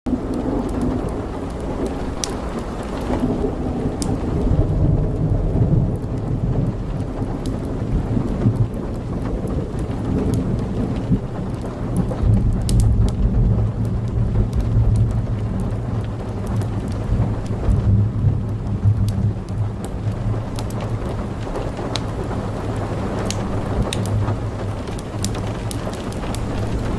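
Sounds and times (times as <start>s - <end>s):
deep low rumble: 0.1s - 26.9s
heavy rain pouring: 0.1s - 26.9s.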